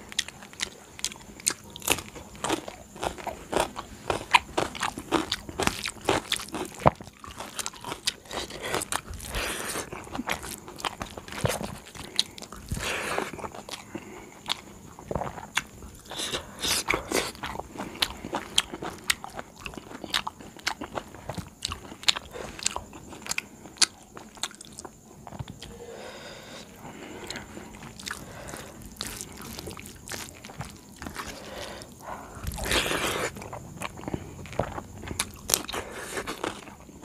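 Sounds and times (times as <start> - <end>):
wet chewing: 0.1 - 37.0.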